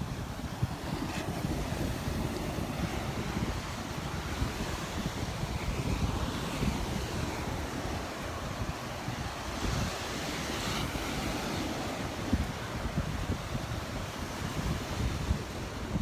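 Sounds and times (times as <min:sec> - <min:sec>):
surf washing ashore: 0:00.0 - 0:16.0
wind buffeting microphone: 0:00.0 - 0:16.0.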